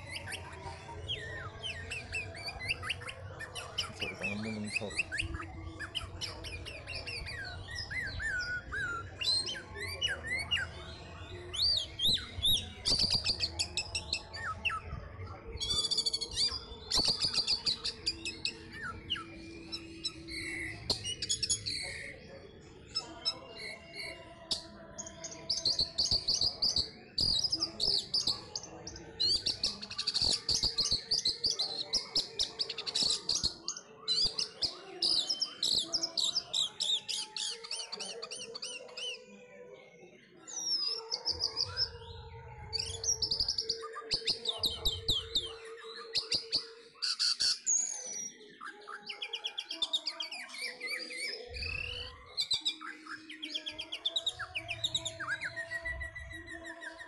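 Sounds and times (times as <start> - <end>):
thrush singing chirps and trills: 0.0 - 57.0.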